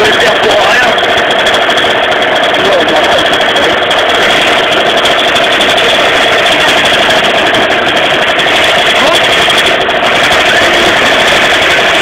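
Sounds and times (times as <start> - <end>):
moped engine idling: 0.0 - 12.0.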